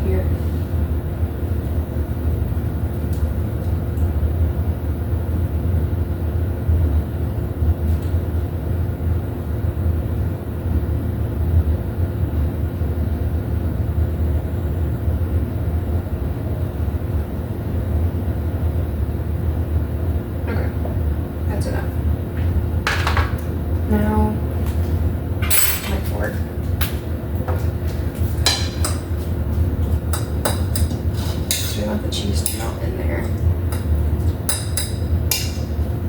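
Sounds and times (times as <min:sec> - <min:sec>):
low machine hum: 0:00.0 - 0:36.0.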